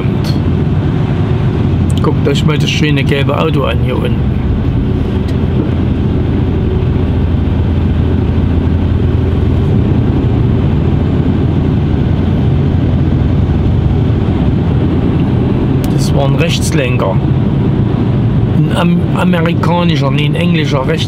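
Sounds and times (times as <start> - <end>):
truck diesel engine idling: 0.0 - 19.2
tyre and road noise: 0.0 - 21.0.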